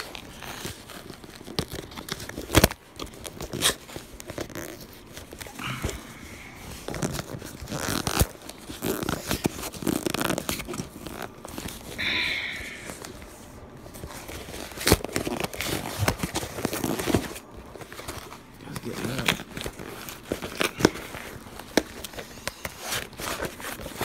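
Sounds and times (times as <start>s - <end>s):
blade ripping through cardboard: 0.0s - 6.0s, 6.8s - 12.1s, 14.0s - 24.0s
crinkling: 0.0s - 24.0s.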